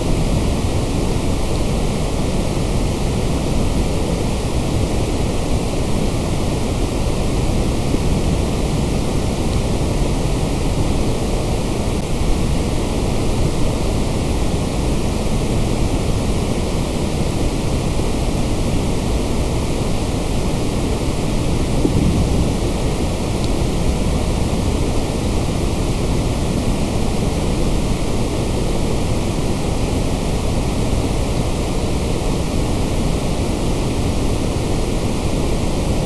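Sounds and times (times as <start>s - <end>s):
white noise hiss: 0.0s - 36.0s.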